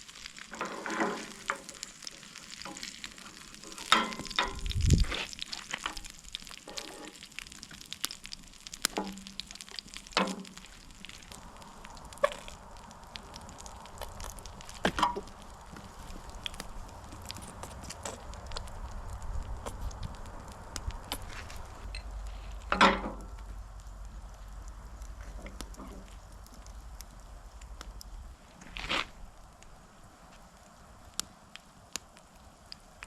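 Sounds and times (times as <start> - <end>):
burgers sizzling on a grill: 0.0 - 33.0
campfire crackles: 0.0 - 33.0.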